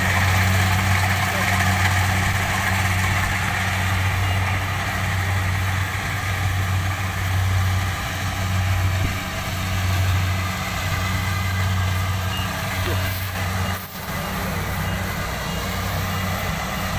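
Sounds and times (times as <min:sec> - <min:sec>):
combine harvester engine humming: 0:00.0 - 0:16.9.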